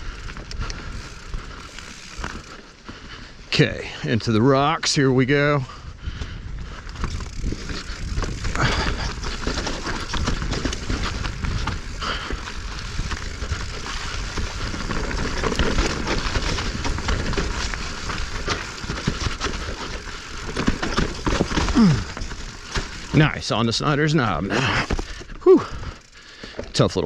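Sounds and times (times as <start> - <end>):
mountain bike rattling over rocks: 0.0 - 27.0.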